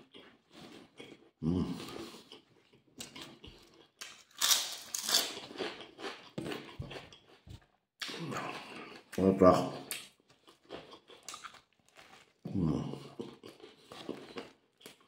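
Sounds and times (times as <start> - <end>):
person chewing bread: 0.0 - 9.2, 9.8 - 15.0.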